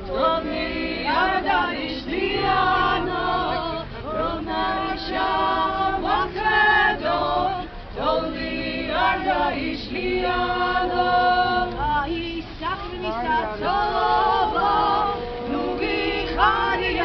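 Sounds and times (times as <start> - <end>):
choir singing a cappella chant: 0.0 - 17.0.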